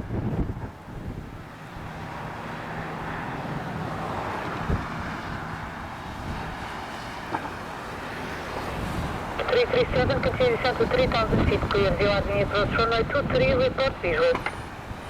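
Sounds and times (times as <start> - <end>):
wind on microphone: 0.0 - 6.8, 8.5 - 15.0
jet engines rushing: 0.0 - 15.0.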